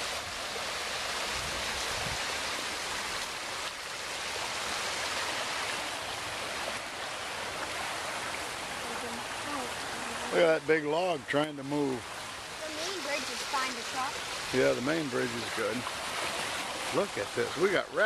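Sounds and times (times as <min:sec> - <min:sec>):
creek running fast: 0:00.0 - 0:18.0.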